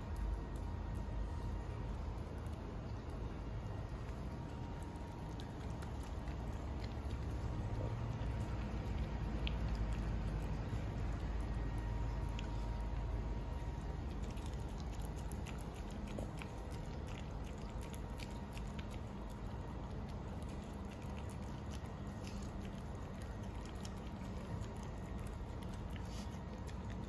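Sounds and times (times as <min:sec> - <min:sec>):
dog eating with smacking: 0:00.0 - 0:27.0.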